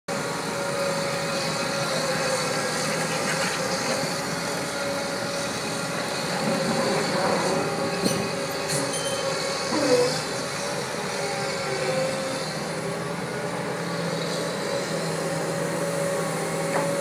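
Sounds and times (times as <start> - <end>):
excavator diesel engine running: 0.1 - 17.0.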